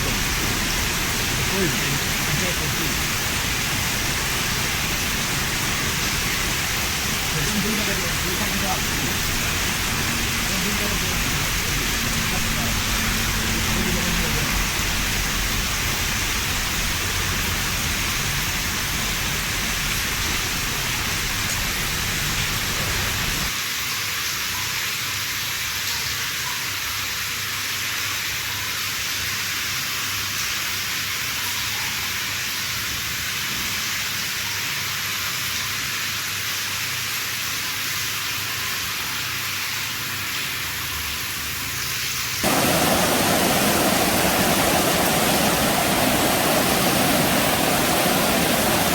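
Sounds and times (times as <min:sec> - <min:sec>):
heavy rain pouring: 0:00.0 - 0:24.5, 0:27.1 - 0:48.9.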